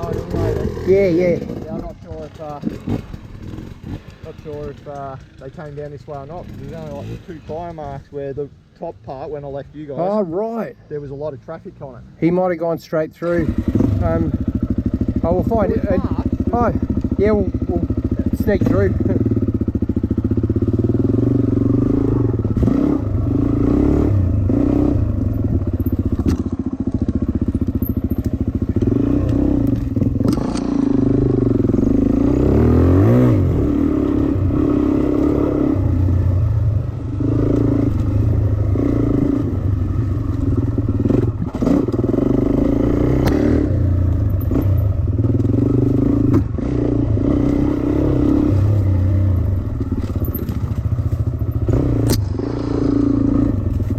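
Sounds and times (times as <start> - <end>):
dirt bike engine revving: 0.0 - 8.0, 13.2 - 53.9.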